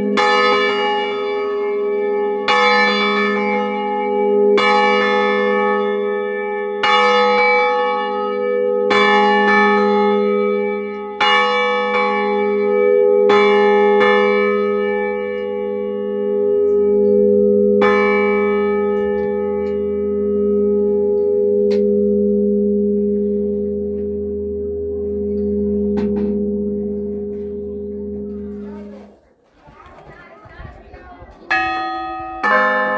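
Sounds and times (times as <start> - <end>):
deep bell hum: 0.0 - 29.0
church bells striking: 0.0 - 29.1, 31.5 - 32.9.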